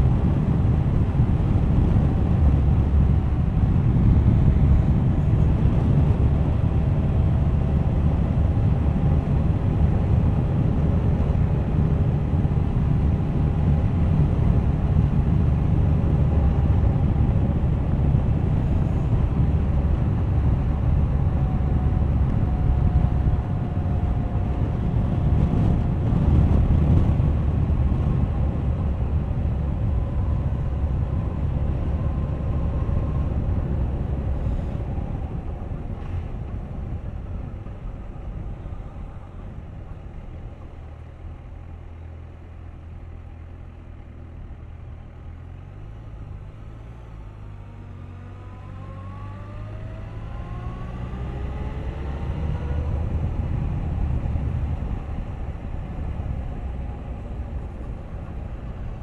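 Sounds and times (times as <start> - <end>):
wind rush: 0.0 - 40.1, 48.7 - 59.0.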